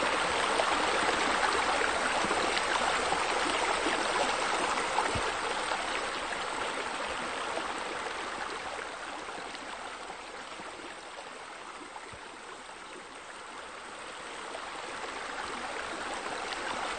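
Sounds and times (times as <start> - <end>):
rushing running water: 0.0 - 16.9.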